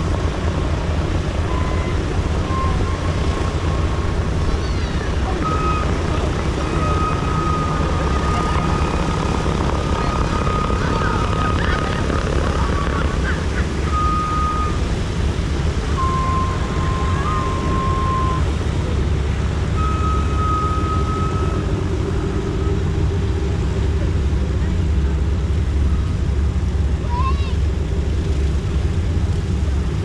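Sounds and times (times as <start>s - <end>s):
radial aircraft engines droning: 0.0s - 30.0s.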